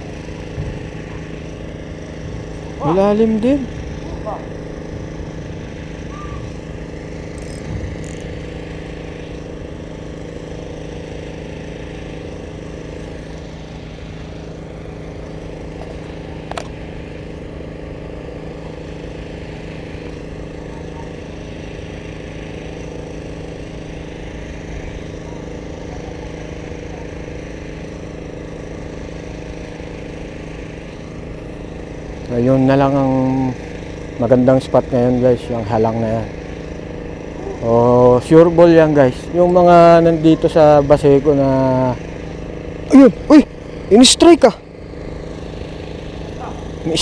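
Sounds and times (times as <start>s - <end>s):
motor running steadily: 0.0s - 47.0s.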